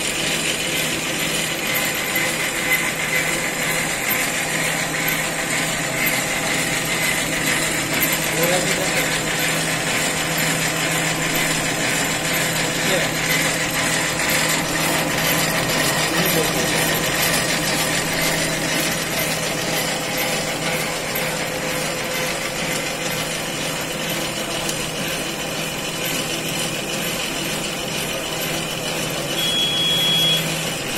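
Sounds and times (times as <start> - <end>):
motor hum: 0.0 - 30.9.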